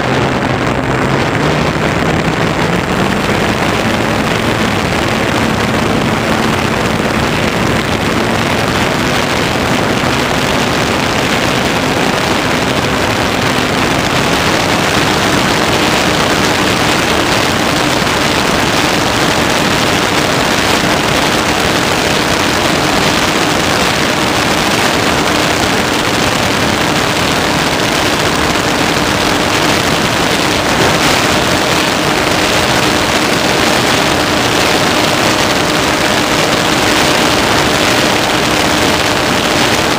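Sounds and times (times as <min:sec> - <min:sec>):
electric motor and propeller humming: 0:00.0 - 0:39.9
rushing airflow: 0:00.0 - 0:39.9.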